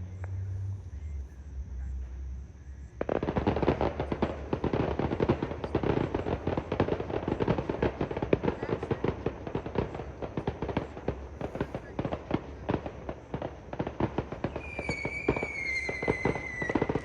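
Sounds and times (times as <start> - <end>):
fireworks crackling and banging: 3.0 - 17.0.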